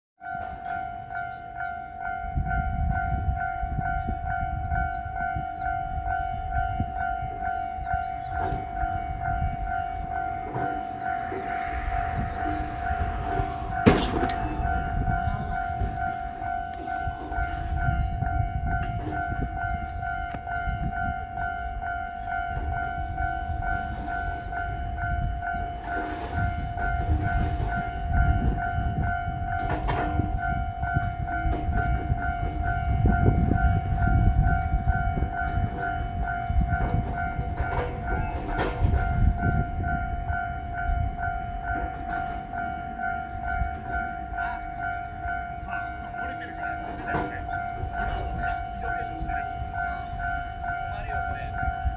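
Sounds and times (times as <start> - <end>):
level crossing alarm ringing: 0.2 - 51.9
low rumbling gusts: 1.9 - 51.9.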